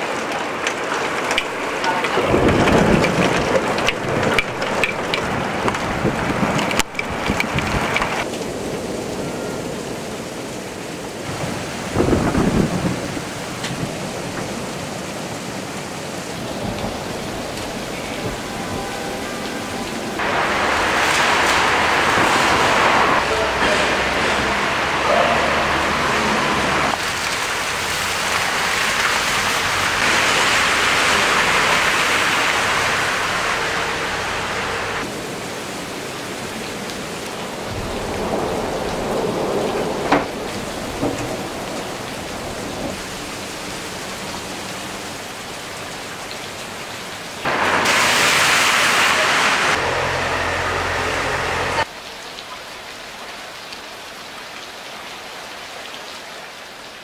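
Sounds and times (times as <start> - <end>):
hail and rain falling: 0.0 - 57.0.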